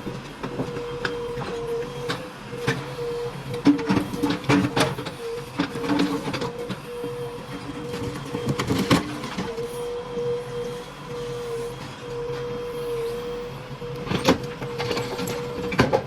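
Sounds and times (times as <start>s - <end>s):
backhoe loader diesel engine: 0.0s - 16.0s
steady whine: 0.0s - 16.0s.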